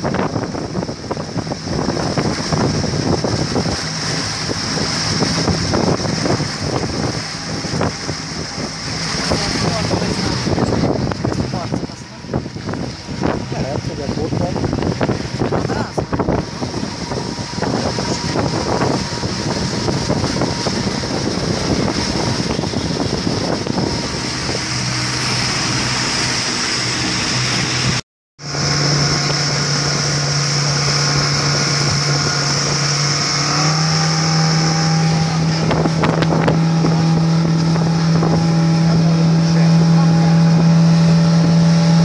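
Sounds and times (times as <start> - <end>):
outboard motor engine: 0.0 - 42.0
rushing wind and water: 0.0 - 42.0.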